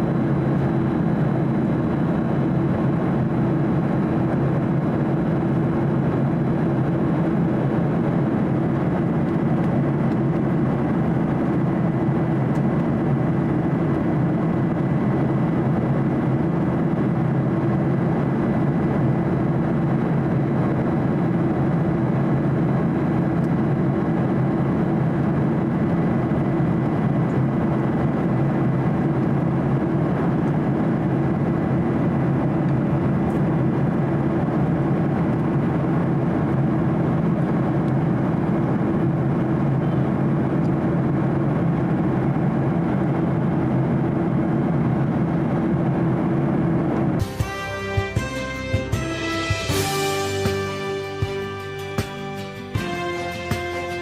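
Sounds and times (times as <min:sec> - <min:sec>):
air rushing along fuselage: 0:00.0 - 0:54.0
jet engine hum: 0:00.0 - 0:54.0.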